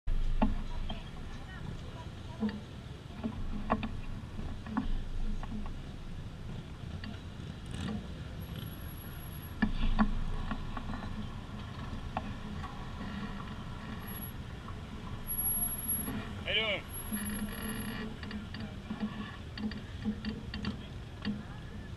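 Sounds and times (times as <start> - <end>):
low engine rumble: 0.1 - 21.9.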